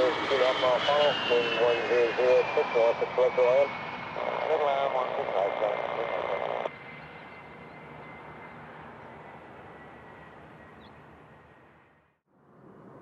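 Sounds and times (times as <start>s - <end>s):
aircraft engine rushing: 0.0s - 13.0s
faint high whine: 0.0s - 13.0s.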